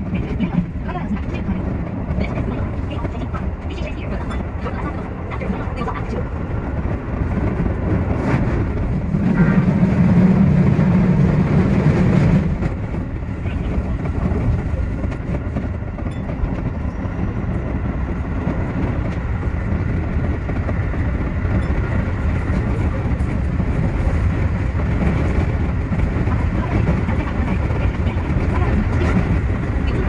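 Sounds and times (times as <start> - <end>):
train wheels running on rails: 0.0 - 30.0.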